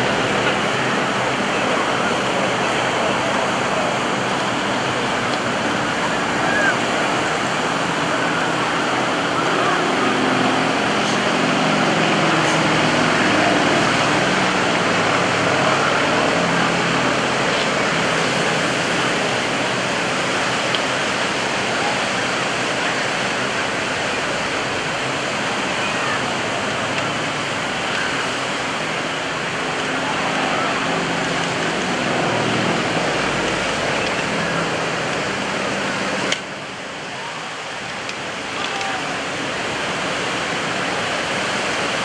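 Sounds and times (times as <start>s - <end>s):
faint propeller plane engine drone: 0.0s - 42.0s
surf: 0.0s - 42.0s.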